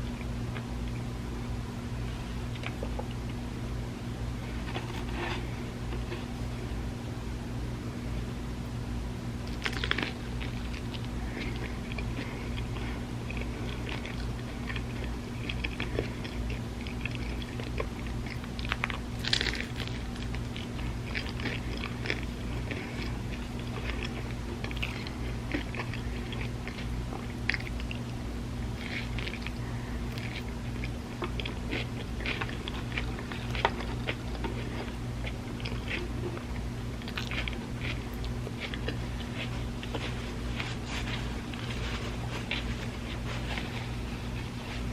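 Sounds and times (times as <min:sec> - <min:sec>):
steady low hum: 0:00.0 - 0:44.9
chewing and crunching toast: 0:02.2 - 0:03.4, 0:04.4 - 0:06.8, 0:09.4 - 0:44.9.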